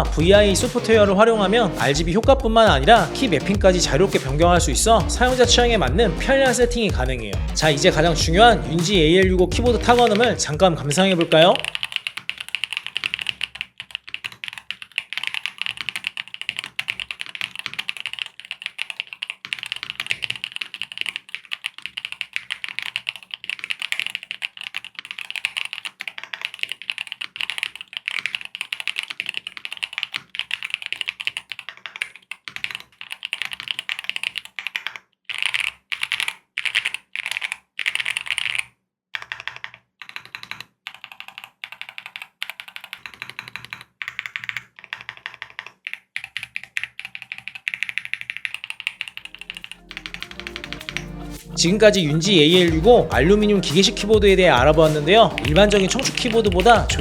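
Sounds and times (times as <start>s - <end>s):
mechanical keyboard typing: 9.9s - 57.0s.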